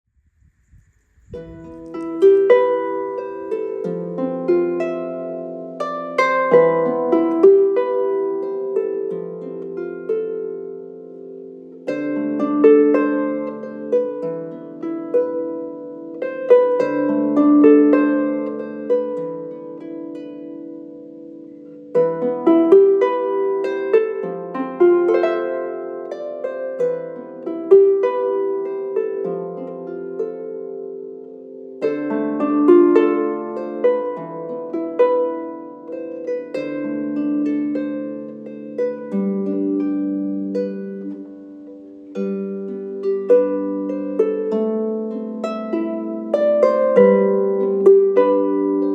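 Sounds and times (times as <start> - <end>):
harp playing plucked melody: 1.2 - 48.9.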